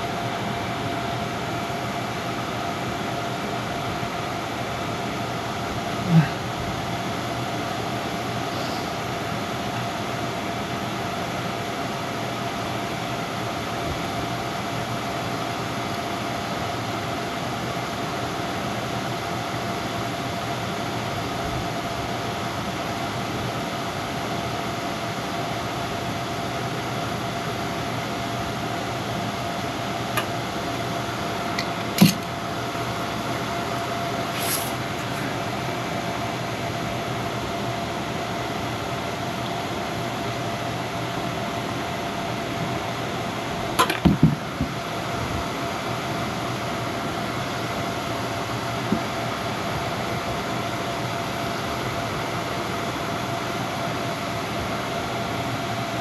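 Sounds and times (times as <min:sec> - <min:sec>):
machine hum with held tone: 0:00.0 - 0:56.0.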